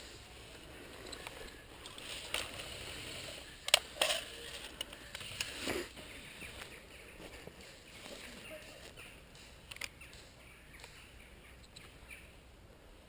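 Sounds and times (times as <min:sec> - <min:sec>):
rustle on dry leaves: 0:00.0 - 0:11.2.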